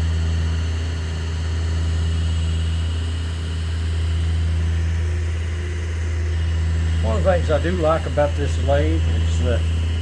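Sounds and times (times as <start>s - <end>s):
wood lathe running: 0.0s - 10.0s.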